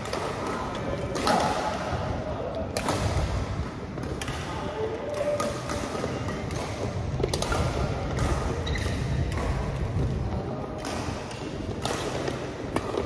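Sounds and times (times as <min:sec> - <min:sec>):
rackets striking shuttlecock: 0:00.0 - 0:02.0, 0:02.6 - 0:13.0.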